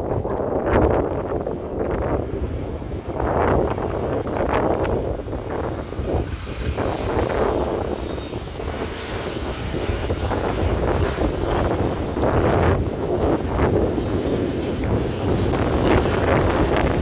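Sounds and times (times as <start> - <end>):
jet plane passing overhead: 0.0 - 17.0
wind buffeting microphone: 0.0 - 17.0.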